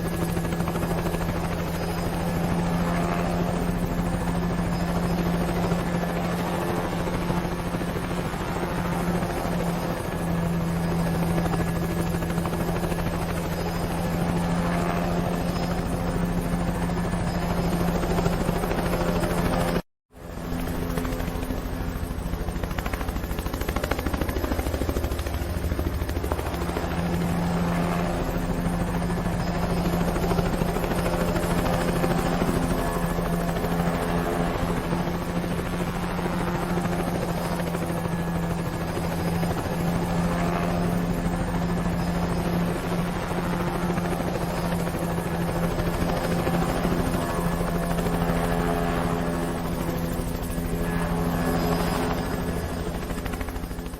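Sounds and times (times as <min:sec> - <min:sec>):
helicopter drone: 0:00.0 - 0:53.9.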